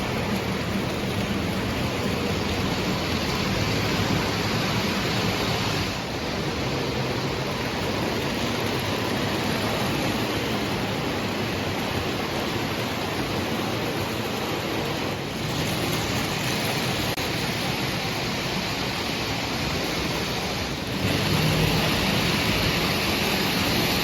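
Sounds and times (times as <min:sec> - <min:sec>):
model train wheels rumbling on rail: 0:00.0 - 0:24.0.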